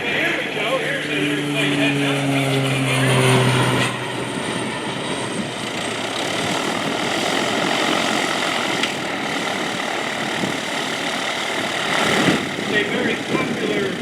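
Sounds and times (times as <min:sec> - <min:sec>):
airplane engine rushing: 0:00.0 - 0:14.0.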